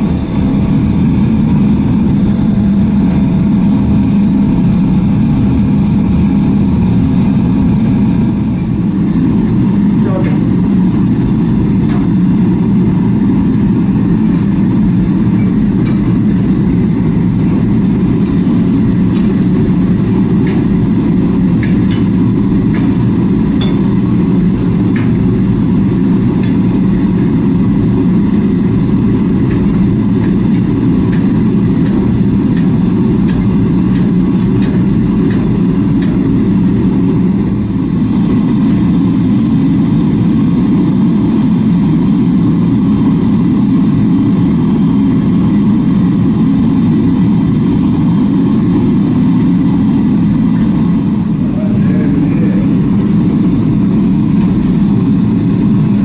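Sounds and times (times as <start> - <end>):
machine droning: 0.0 - 56.0.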